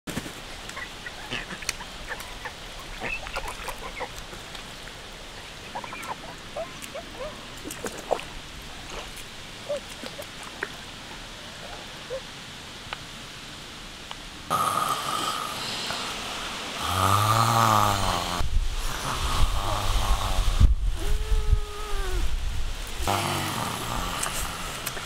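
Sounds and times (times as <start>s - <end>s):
steady background hiss: 0.1s - 25.0s.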